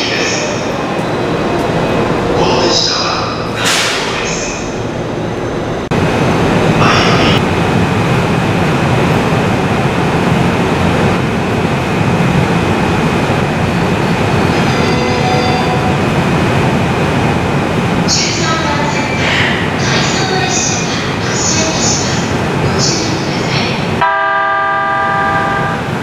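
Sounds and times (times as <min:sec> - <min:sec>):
train rumbling through station: 0:00.0 - 0:26.0.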